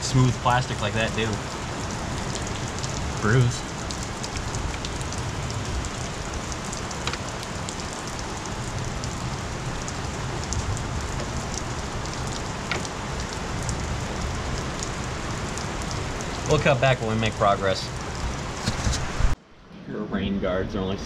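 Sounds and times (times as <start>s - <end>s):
rain on a roof: 0.0s - 19.4s.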